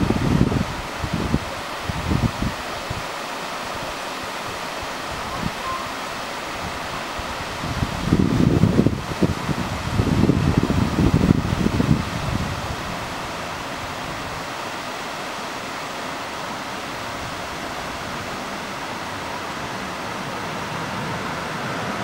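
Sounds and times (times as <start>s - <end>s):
waterfall over boulders: 0.0s - 22.0s.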